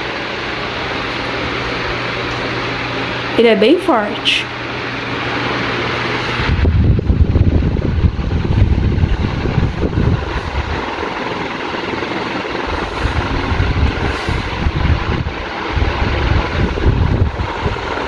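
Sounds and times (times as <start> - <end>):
ceiling fan wind buffeting microphone: 0.0 - 18.0.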